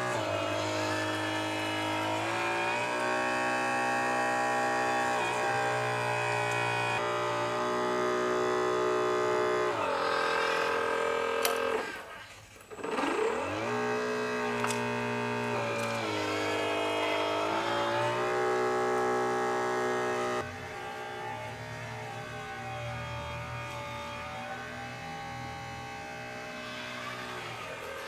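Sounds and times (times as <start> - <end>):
toy excavator pump whine: 0.0 - 28.0.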